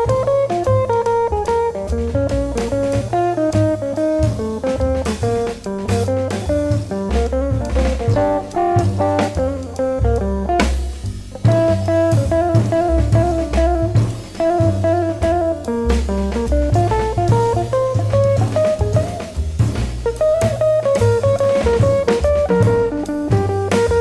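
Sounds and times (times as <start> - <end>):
instrumental music with plucked guitar: 0.0 - 24.0.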